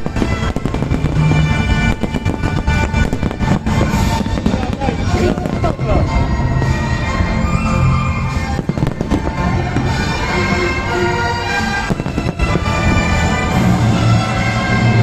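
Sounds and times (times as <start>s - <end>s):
fireworks popping and crackling: 0.0s - 7.1s, 8.1s - 15.0s
music playing: 0.0s - 15.0s.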